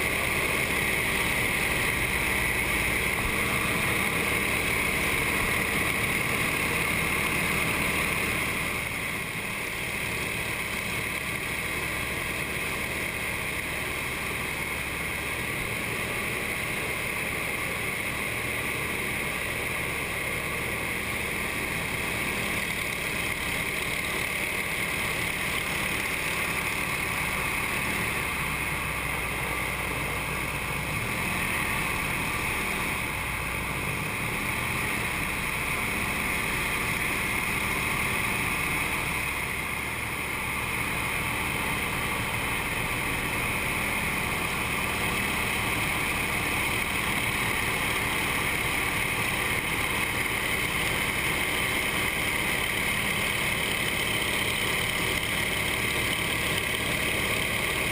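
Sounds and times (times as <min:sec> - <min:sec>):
radial engine and propeller: 0:00.0 - 0:57.9.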